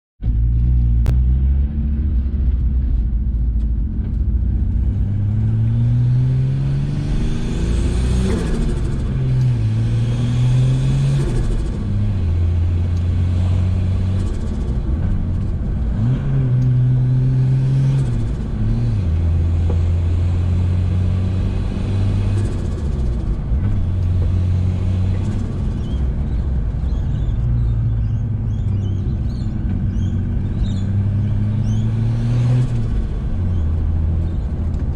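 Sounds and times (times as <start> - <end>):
car engine revving uphill: 0.2 - 34.9.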